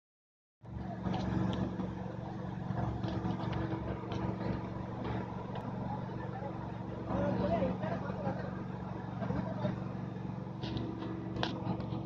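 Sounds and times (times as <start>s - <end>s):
motor humming: 0.6s - 12.0s.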